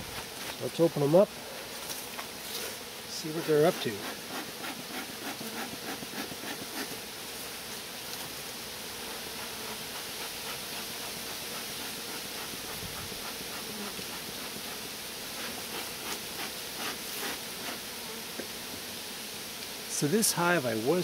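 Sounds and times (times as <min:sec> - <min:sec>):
bees buzzing: 0:00.0 - 0:21.0
even hiss: 0:00.0 - 0:21.0.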